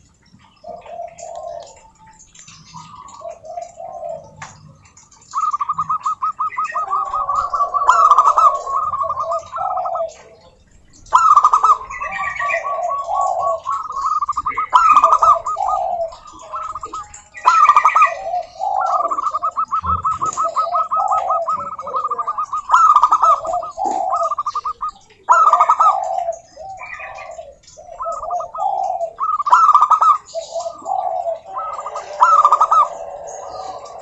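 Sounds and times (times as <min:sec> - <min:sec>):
doves cooing: 0:00.0 - 0:34.0
high chirps: 0:00.6 - 0:34.0.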